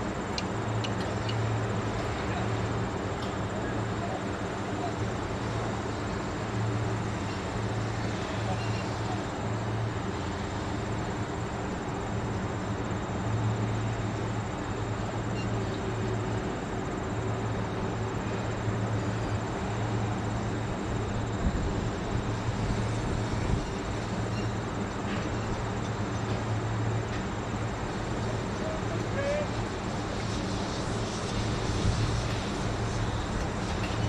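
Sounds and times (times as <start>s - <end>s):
machine humming steadily: 0.0s - 34.0s.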